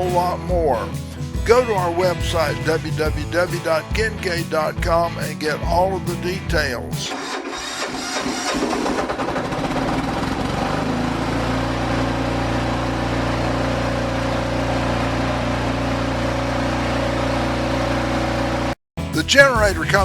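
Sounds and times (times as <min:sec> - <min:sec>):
diesel generator engine running: 0:00.0 - 0:20.0.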